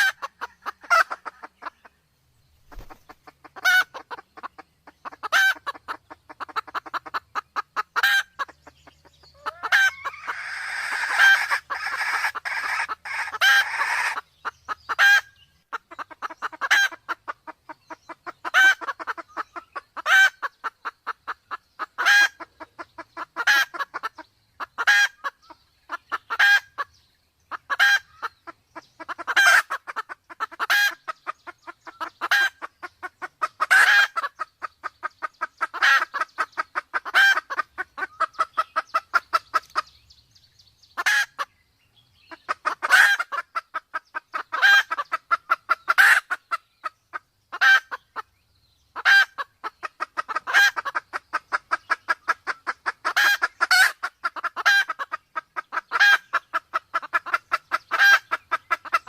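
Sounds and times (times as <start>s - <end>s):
junglefowl hen clucking: 0.0s - 40.2s, 40.8s - 41.6s, 42.2s - 59.0s.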